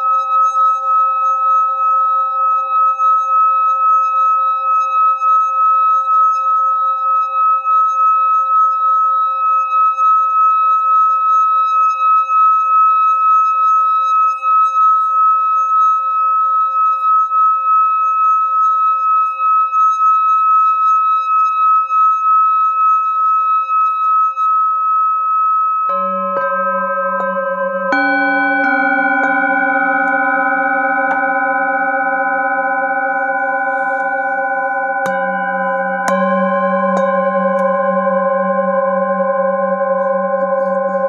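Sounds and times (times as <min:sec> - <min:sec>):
singing bowl ringing: 0:00.0 - 0:41.0.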